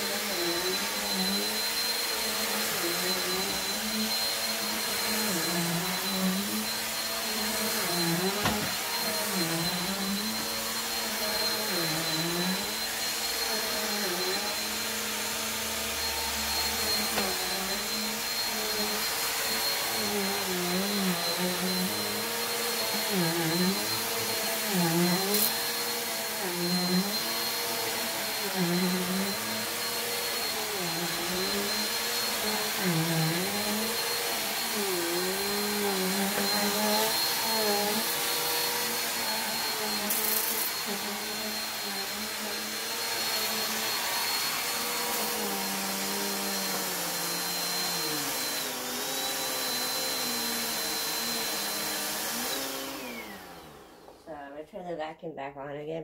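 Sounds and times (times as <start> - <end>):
vacuum cleaner running: 0.0 - 54.6.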